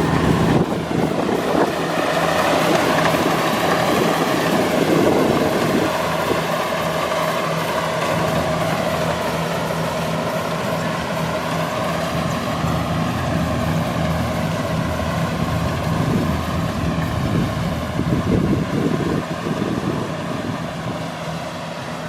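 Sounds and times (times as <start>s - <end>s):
combine harvester droning: 0.0s - 22.0s.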